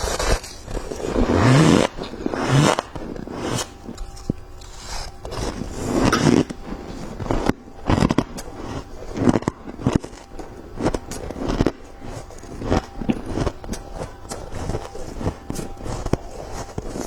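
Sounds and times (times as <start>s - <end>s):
person crunching ice: 0.0s - 17.0s.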